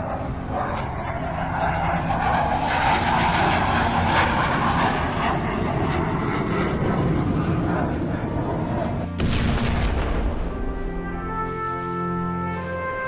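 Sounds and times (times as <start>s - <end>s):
fighter jet engine roar: 0.0s - 13.0s.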